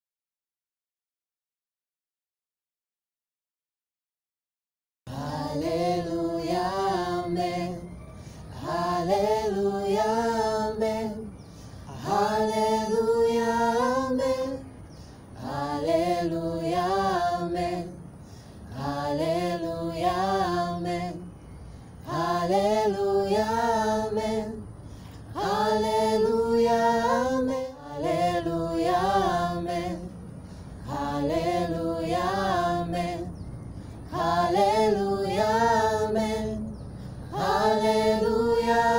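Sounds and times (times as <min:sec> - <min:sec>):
group singing a cappella: 0:05.1 - 0:38.9.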